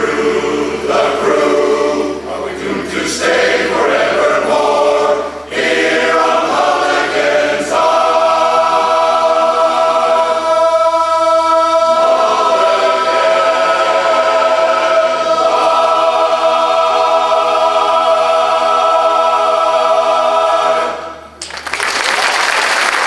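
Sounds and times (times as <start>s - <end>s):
chorus singing a cappella: 0.0s - 21.4s.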